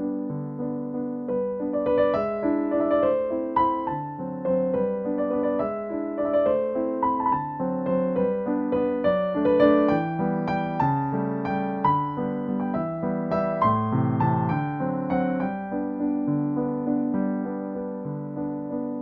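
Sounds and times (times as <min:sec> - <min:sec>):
soft piano music: 0:00.0 - 0:19.0.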